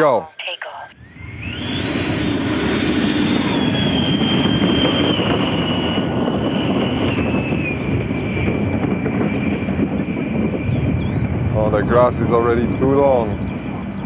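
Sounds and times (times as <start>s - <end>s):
ducted fan rushing whine: 0.9s - 14.0s.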